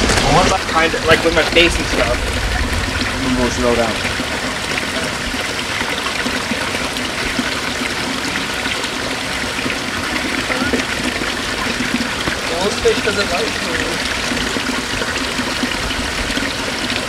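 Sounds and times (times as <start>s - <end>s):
water sloshing in a tub: 0.0s - 17.0s
water trickling: 0.0s - 17.0s.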